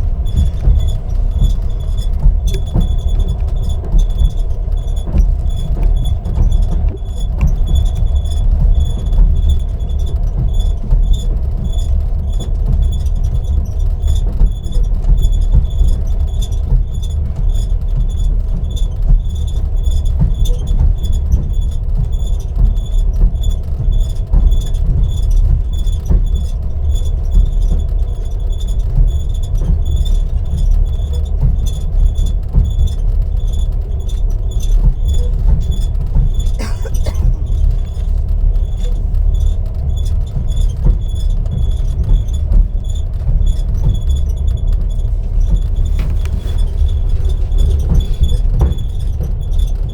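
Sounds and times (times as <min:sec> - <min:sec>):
train rumbling on rails: 0:00.0 - 0:49.9.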